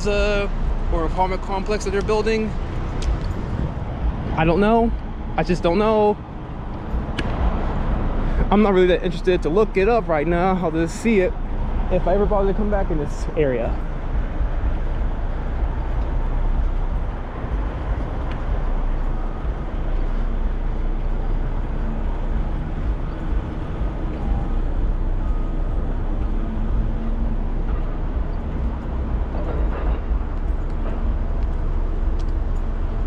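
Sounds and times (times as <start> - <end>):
highway traffic rumble: 0.0 - 33.0.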